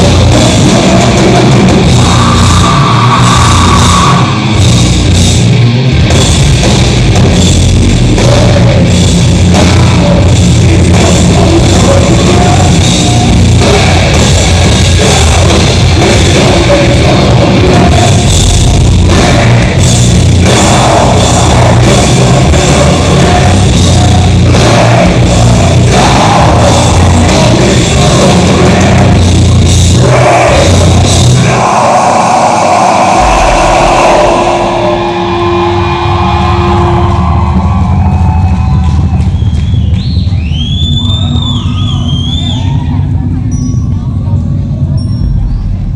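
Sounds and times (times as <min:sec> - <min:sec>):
live heavy metal band: 0:00.0 - 0:40.4
distorted electric guitars: 0:00.0 - 0:40.5
pounding drum kit: 0:00.0 - 0:45.9.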